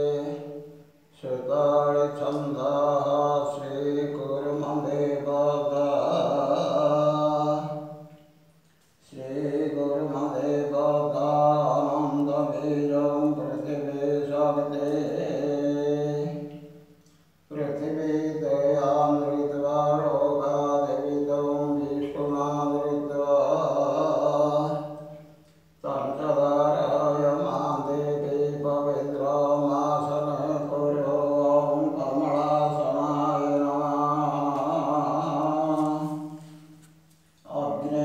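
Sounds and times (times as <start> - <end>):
mantra chanting: 0.0 - 8.4, 9.0 - 16.9, 17.5 - 38.0.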